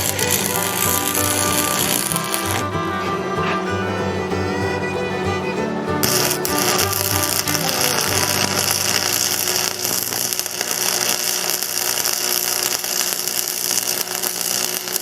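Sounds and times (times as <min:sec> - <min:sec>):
angle grinder grinding steel: 0:00.0 - 0:15.0.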